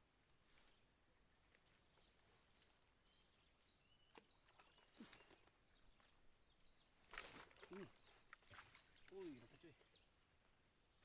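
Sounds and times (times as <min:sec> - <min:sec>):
insect drone: 0:00.0 - 0:11.0
small bird chirping: 0:00.5 - 0:10.2.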